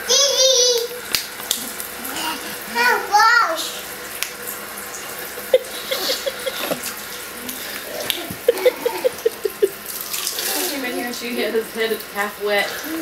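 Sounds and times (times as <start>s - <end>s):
water running from faucet: 0.0s - 13.0s.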